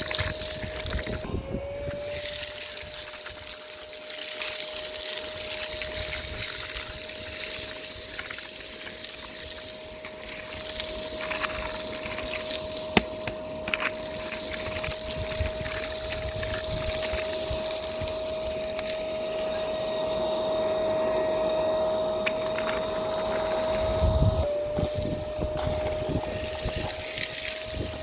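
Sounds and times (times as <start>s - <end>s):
vacuum cleaner motor whine: 0.0s - 28.0s
grit crackling being sucked up: 1.9s - 19.9s, 22.2s - 28.0s.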